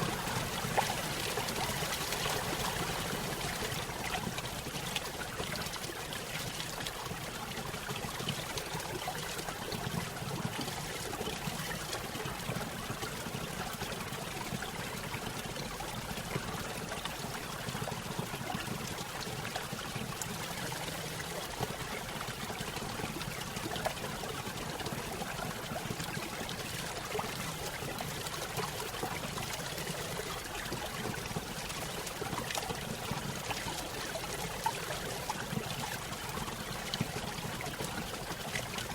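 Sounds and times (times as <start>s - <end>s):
water trickling over small waterfall: 0.0s - 38.9s.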